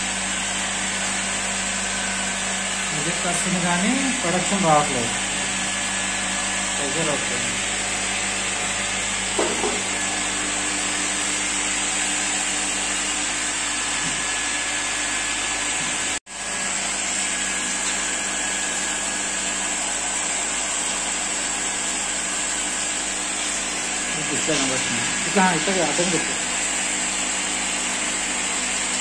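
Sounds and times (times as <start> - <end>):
electric pump motor whirring: 0.0 - 29.0.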